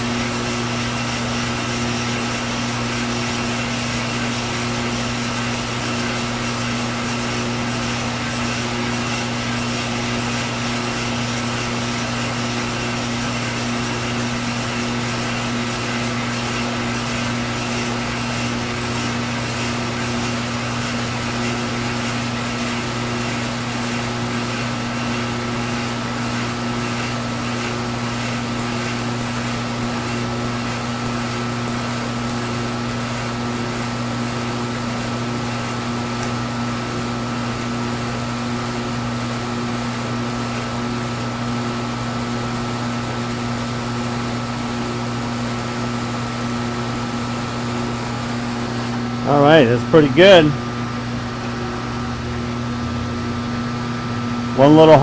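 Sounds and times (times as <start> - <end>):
machine tool humming: 0.0 - 55.0
shop vacuum hissing: 0.0 - 55.0.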